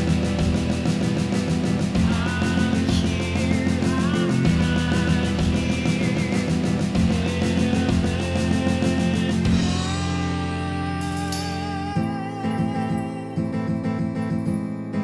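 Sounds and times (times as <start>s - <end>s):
steady drum beat: 0.0s - 12.7s
electric guitars bending notes: 0.0s - 13.5s
bass guitar: 0.0s - 15.0s.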